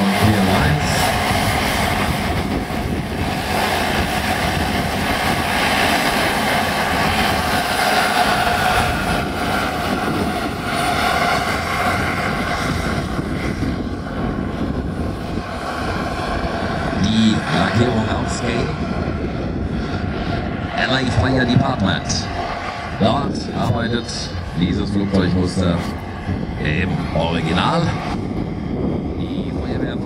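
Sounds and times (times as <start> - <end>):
model helicopter engine whine: 0.0 - 30.0.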